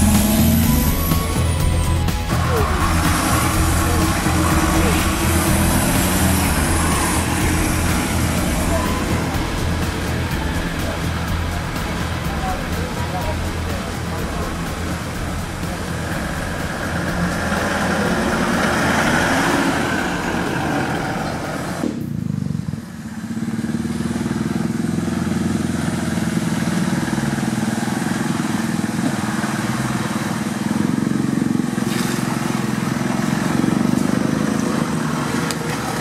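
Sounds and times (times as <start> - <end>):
off-road vehicle engine running: 0.0 - 36.0.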